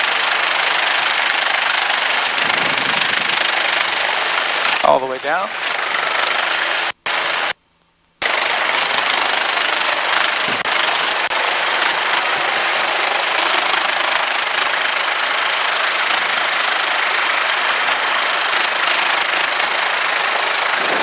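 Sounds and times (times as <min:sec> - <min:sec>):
helicopter engine and rotor running: 0:00.0 - 0:07.5, 0:08.2 - 0:21.0.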